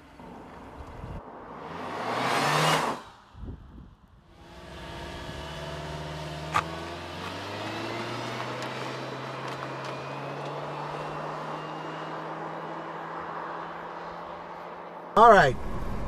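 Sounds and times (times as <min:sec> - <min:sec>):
car cruising drone: 0:00.0 - 0:16.0
car whooshing past: 0:01.0 - 0:14.5.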